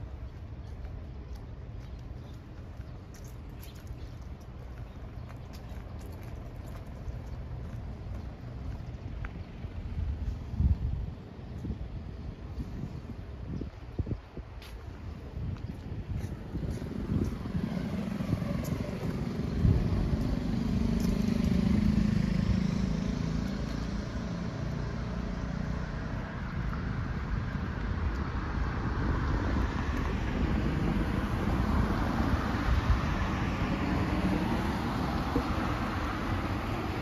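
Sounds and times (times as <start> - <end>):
vehicles passing by: 0.0 - 37.0
wind buffeting microphone: 0.0 - 37.0.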